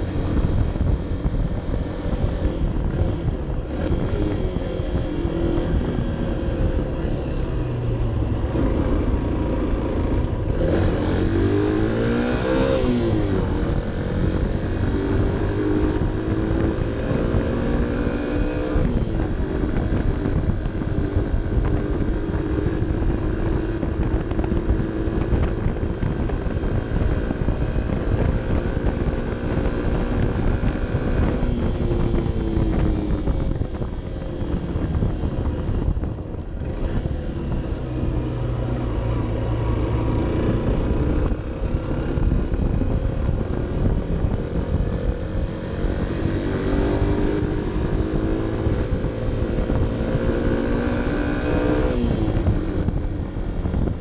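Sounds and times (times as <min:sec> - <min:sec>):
motorcycle engine pulling uphill: 0:00.0 - 0:54.0
wind rumble: 0:00.0 - 0:54.0.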